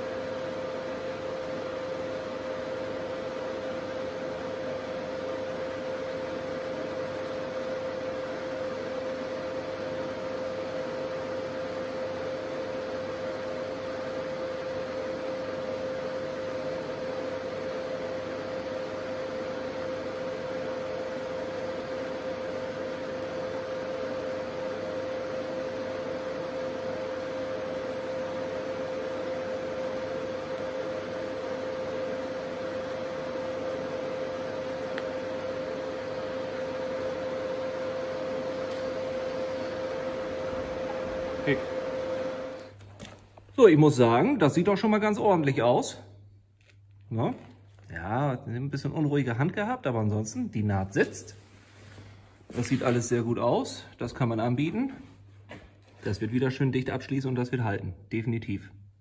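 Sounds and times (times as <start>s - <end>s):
welding hiss and hum: 0.0s - 46.0s, 46.6s - 57.2s.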